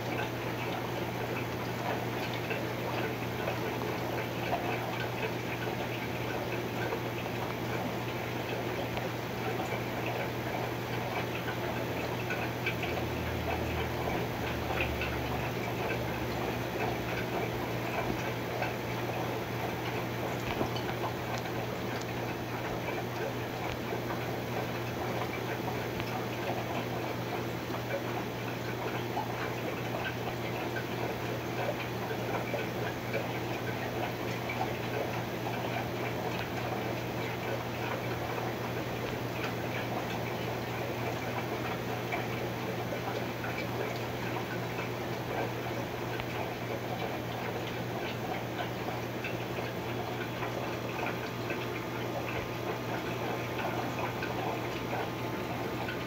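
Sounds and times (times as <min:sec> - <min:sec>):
air bubbles fizzing: 0:00.0 - 0:56.0
pump humming: 0:00.0 - 0:56.0.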